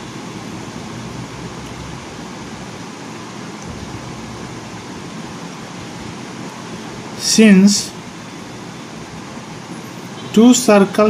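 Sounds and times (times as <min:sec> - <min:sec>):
steady room noise hiss: 0:00.0 - 0:11.0.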